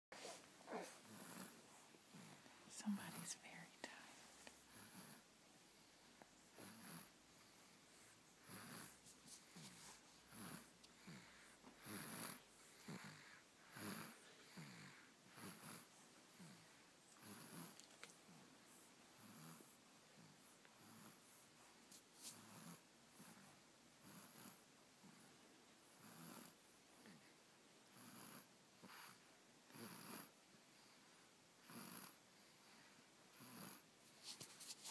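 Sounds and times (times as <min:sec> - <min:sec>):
baby snoring softly: 0:00.2 - 0:18.5, 0:19.1 - 0:21.6, 0:22.2 - 0:27.3, 0:27.9 - 0:34.9.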